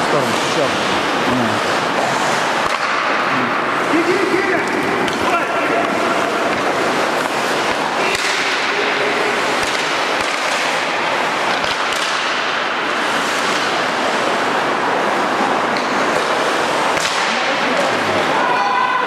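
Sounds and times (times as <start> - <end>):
skates scraping on ice: 0.2 - 18.3.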